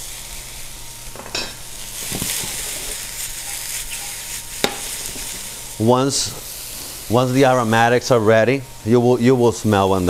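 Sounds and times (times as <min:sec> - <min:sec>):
steaks sizzling in a skillet: 0:00.0 - 0:08.4.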